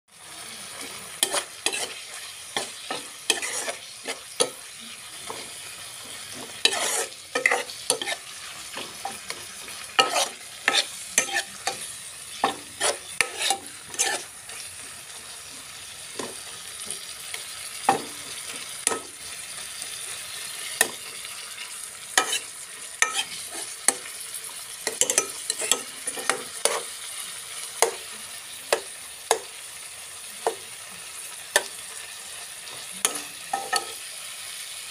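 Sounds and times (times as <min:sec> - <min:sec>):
meat sizzling in a pan: 0:00.1 - 0:34.9
metal spoon scraping a pan: 0:00.6 - 0:14.9, 0:16.2 - 0:19.2, 0:20.5 - 0:28.1, 0:30.4 - 0:34.4.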